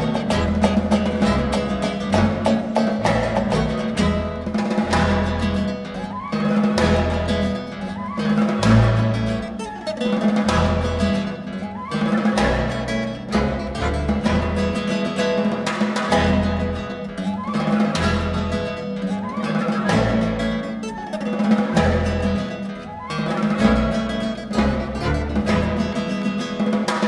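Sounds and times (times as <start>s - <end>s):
classical guitar plucking: 0.0s - 27.0s
string orchestra: 0.0s - 27.0s.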